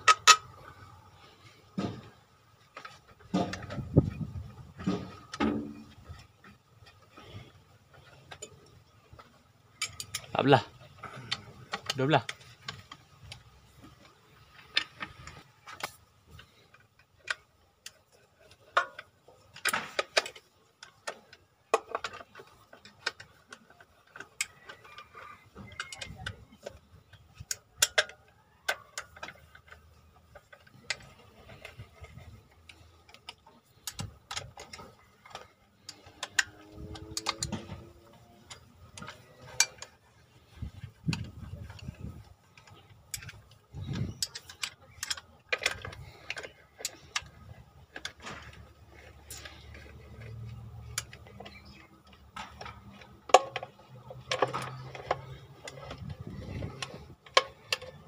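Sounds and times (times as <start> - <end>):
wrench clicking on bolts: 9.8 - 14.1, 14.7 - 58.0.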